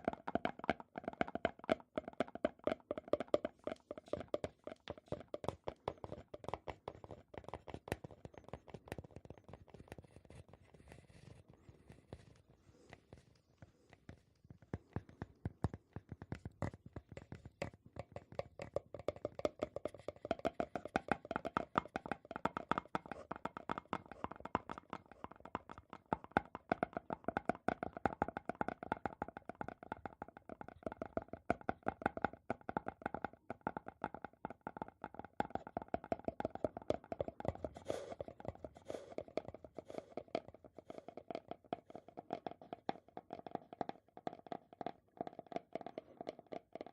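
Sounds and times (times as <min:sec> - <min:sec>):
fast resonant tapping: 0:00.0 - 0:12.2, 0:14.6 - 0:43.9.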